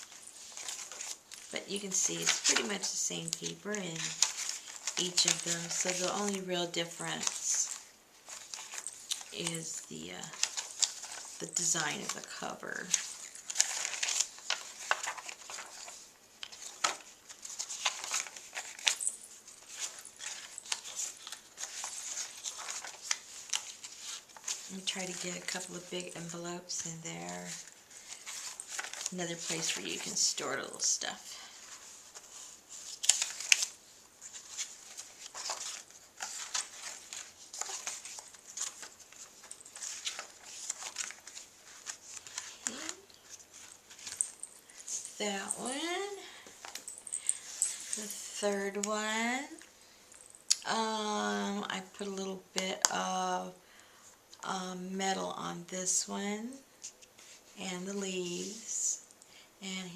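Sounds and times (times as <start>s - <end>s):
paper pages rustling: 0.0s - 49.7s, 56.8s - 57.6s.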